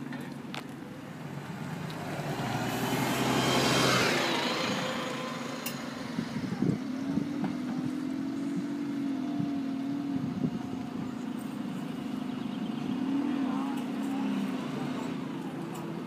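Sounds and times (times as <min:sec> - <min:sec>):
bus approaching: 0:00.0 - 0:16.0
bus driving past: 0:00.8 - 0:16.0.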